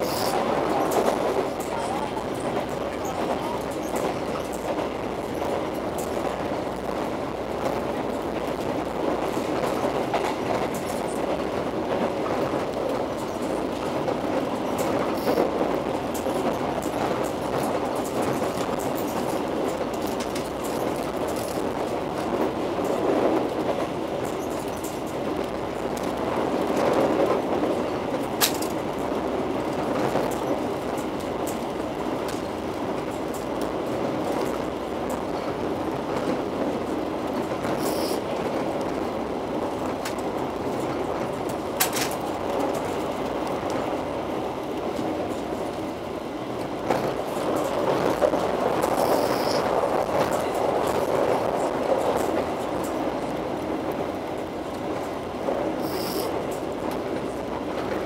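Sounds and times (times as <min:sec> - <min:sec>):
train coach rumbling and rattling: 0:00.0 - 0:58.0
train wheels on rails: 0:00.0 - 0:58.0.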